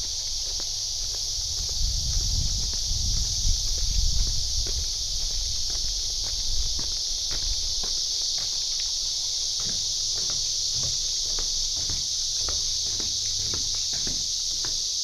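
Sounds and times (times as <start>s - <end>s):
footsteps thudding: 0.0s - 15.0s
high insect chorus: 0.0s - 15.0s.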